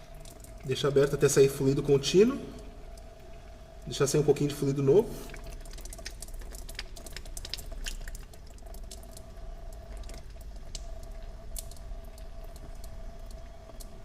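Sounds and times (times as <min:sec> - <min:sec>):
brake fluid dripping and spattering: 0:00.0 - 0:14.0
steady hum: 0:00.0 - 0:14.0.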